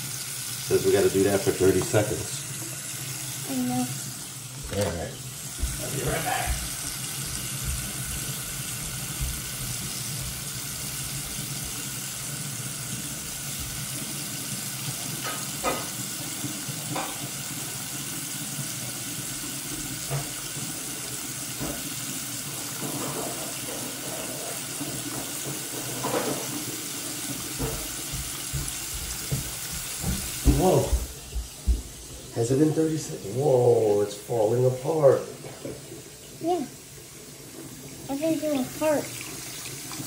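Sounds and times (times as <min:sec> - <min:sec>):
water running from tap: 0:00.0 - 0:40.0.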